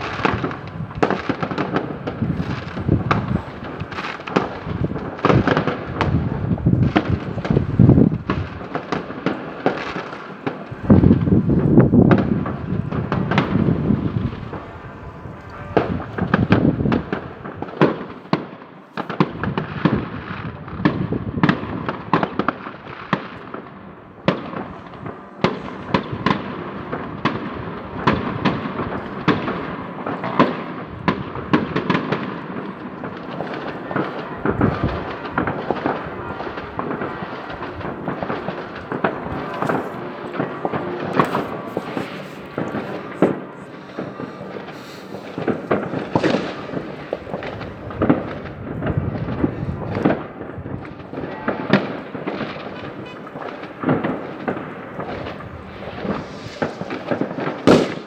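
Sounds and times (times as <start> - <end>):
heavy firework boom: 0.0 - 18.2, 19.1 - 58.0
fireworks cracking and banging: 0.0 - 58.0.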